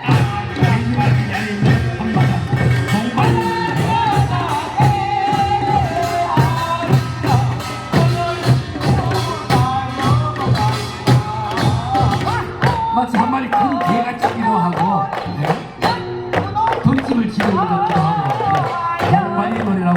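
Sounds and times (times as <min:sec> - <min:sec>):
percussion beat: 0:00.0 - 0:19.9.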